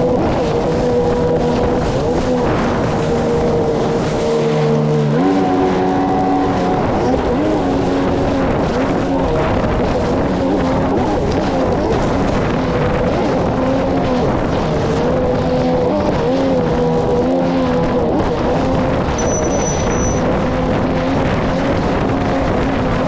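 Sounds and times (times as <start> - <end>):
personal watercraft engine: 0.0 - 23.0
water splashing: 0.0 - 23.0.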